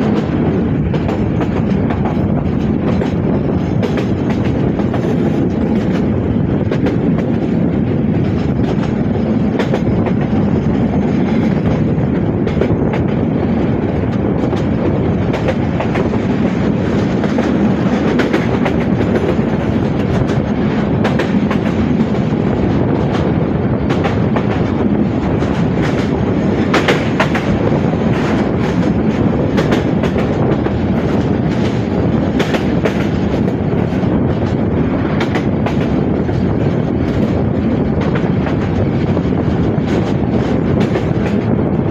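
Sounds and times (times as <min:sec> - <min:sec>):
train carriage rumble: 0:00.0 - 0:41.9
wheels clicking over rail joints: 0:00.0 - 0:41.9.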